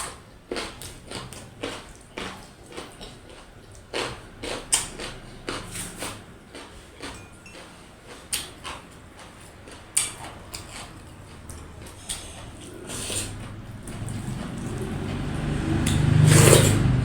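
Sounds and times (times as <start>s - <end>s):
person chewing: 0.0s - 16.9s.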